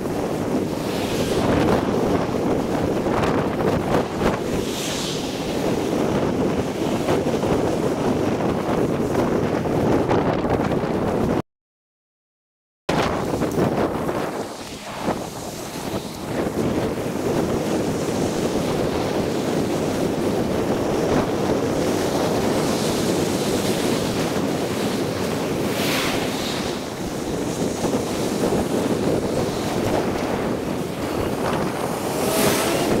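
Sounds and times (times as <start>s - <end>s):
wind rushing over microphone: 0.0s - 11.4s, 12.9s - 33.0s.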